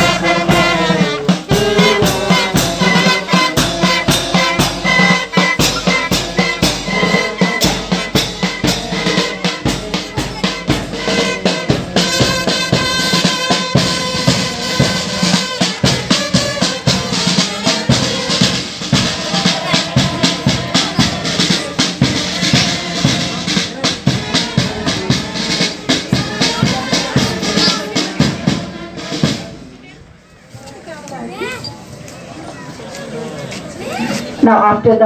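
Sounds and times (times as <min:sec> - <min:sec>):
bass drum and snare drum: 0:00.0 - 0:29.7
marching band playing march: 0:00.0 - 0:30.2.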